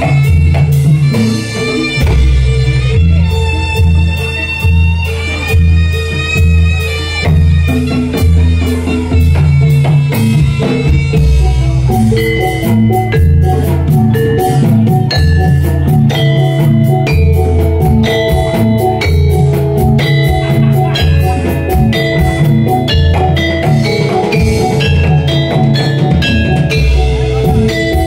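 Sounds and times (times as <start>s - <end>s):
drums: 0.0s - 28.0s
struck metallophones melody: 0.0s - 28.0s.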